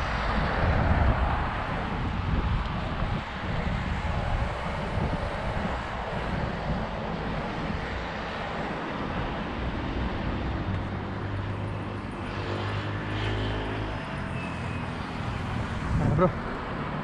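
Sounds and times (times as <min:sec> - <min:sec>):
wind on microphone: 0:00.0 - 0:12.1, 0:14.8 - 0:16.8.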